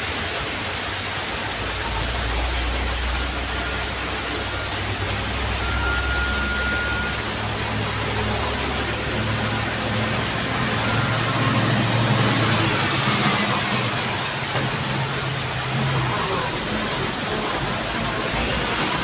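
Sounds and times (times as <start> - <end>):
broad wash of noise: 0.0 - 19.0
diesel truck engine running: 1.1 - 19.0.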